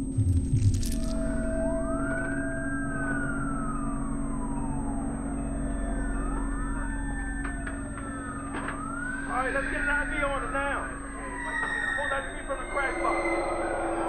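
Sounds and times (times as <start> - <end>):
emergency sirens wailing: 0.0 - 14.0.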